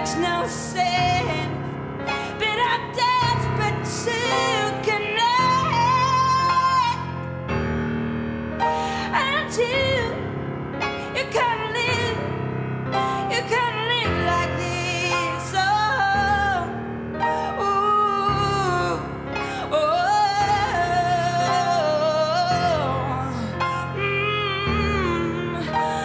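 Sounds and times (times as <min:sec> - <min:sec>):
woman singing with vibrato: 0:00.0 - 0:07.2, 0:11.0 - 0:26.0.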